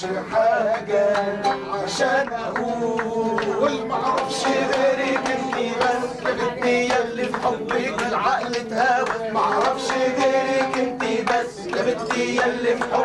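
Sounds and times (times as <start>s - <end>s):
group singing: 0.0s - 13.0s
rhythmic hand-clapping: 0.0s - 13.0s.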